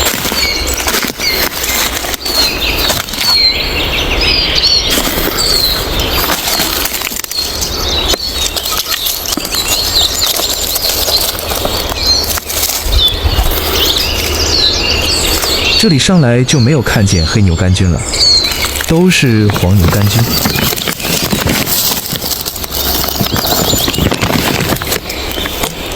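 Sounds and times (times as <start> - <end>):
rustling of dry leaves: 0.0 - 16.2, 17.8 - 25.9
birds chirping: 0.0 - 25.9.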